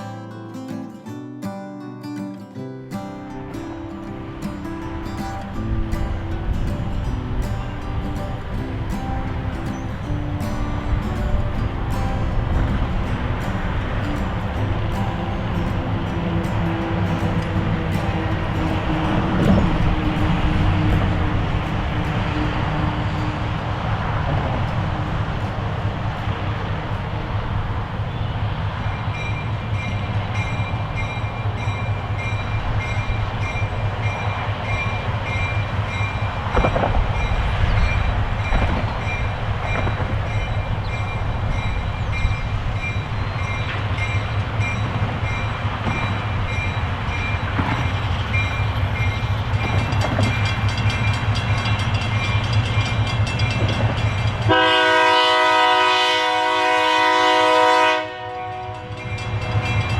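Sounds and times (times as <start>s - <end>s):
diesel locomotive rumbling: 2.9s - 59.9s
multi-tone locomotive horn: 3.3s - 59.9s.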